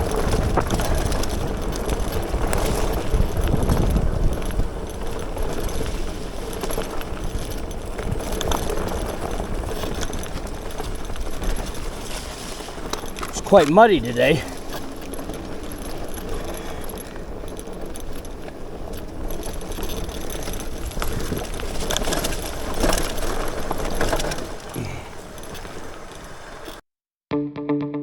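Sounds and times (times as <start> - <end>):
bike parts rattling and clicking: 0.0 - 26.8
tyres rumbling on dirt road: 0.0 - 26.8.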